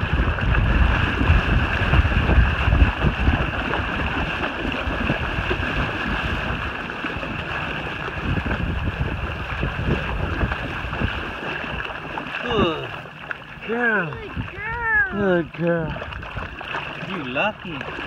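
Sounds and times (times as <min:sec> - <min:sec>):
water splashing and sloshing: 0:00.0 - 0:18.0
wind buffeting microphone: 0:00.0 - 0:18.0.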